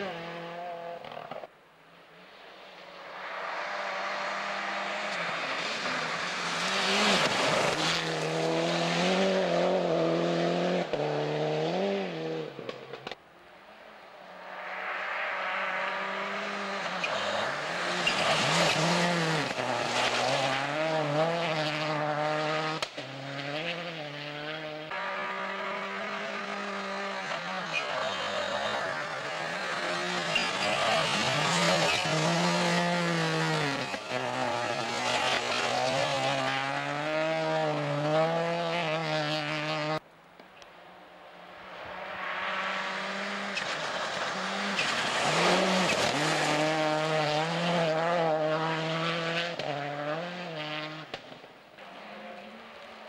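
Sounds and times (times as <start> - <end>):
rally car engine revving: 3.6 - 13.2, 15.3 - 40.0, 41.7 - 53.0.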